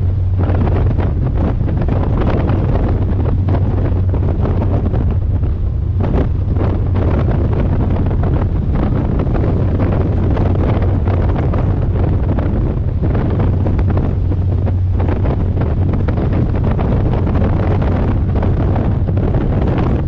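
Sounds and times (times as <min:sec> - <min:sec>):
boat engine drone: 0:00.0 - 0:20.0
wind buffeting microphone: 0:00.0 - 0:20.0.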